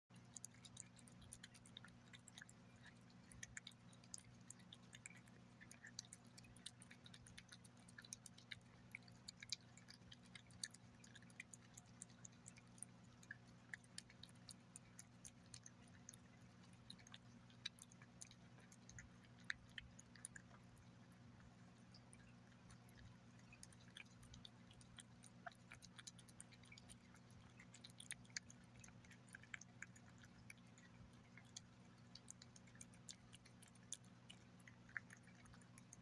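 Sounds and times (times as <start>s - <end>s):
cat chewing and licking: 0.1s - 36.0s.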